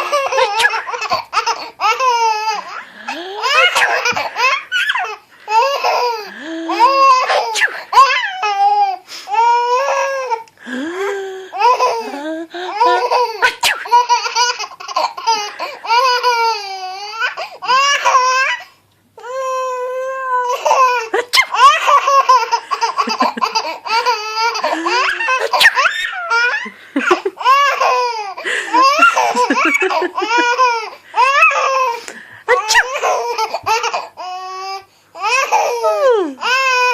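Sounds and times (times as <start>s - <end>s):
baby laughing: 0.0s - 9.0s, 9.7s - 18.7s, 20.4s - 34.6s.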